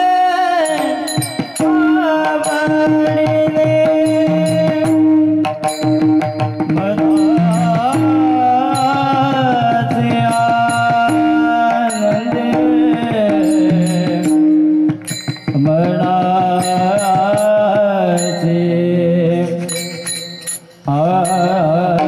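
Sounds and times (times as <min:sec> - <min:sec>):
hand cymbals struck: 0:00.0 - 0:22.0
hand drum: 0:00.0 - 0:22.0
man singing devotional melody: 0:00.0 - 0:22.0.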